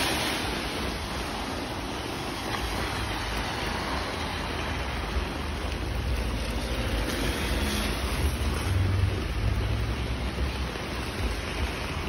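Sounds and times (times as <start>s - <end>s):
car on wet road: 0.0s - 12.0s
heavy rain on street: 0.0s - 12.0s.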